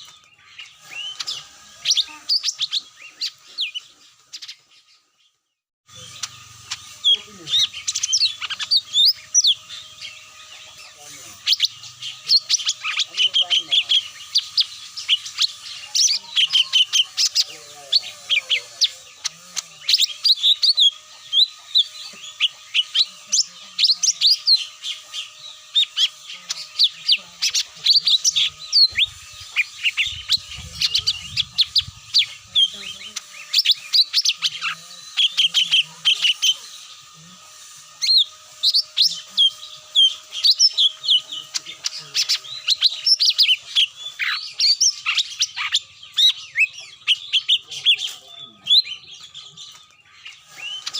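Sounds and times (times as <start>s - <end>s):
bird chirps and calls: 0.0s - 50.9s.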